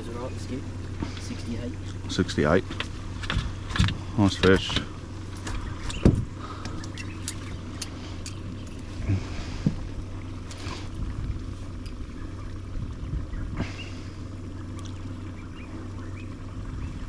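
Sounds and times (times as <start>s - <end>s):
outboard motor idling: 0.0s - 17.0s.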